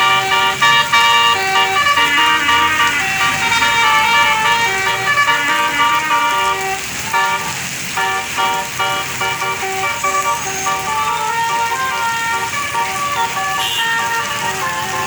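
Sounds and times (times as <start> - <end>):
bus musical air horn tune: 0.0 - 15.0.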